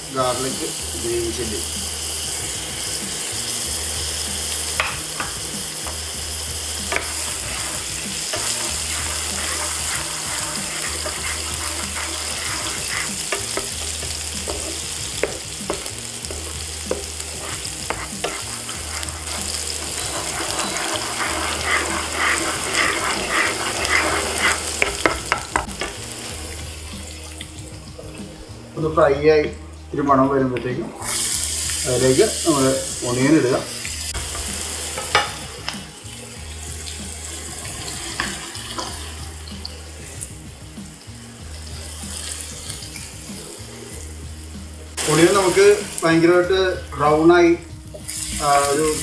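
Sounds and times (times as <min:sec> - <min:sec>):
food sizzling in hot oil: 0:00.0 - 0:49.0.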